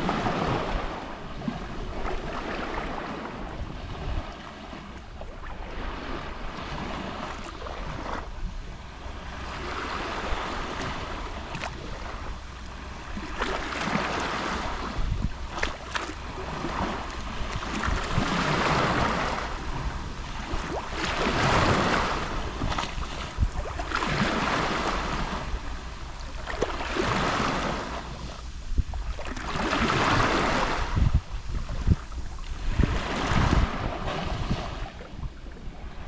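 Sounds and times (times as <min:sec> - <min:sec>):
sea waves lapping on shore: 0:00.0 - 0:36.0
wind rumble on microphone: 0:00.0 - 0:36.0.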